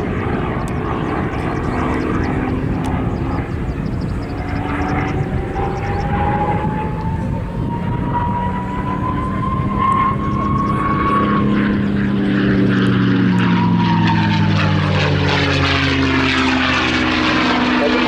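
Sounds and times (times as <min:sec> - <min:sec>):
propeller plane engine: 0:00.0 - 0:18.0.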